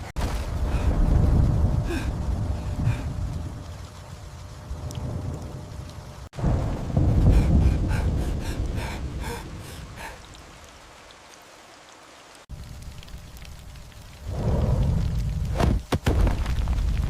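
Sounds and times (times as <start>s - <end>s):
thunder rumbling: 0.0s - 10.9s, 12.5s - 17.0s
rain: 0.0s - 17.0s.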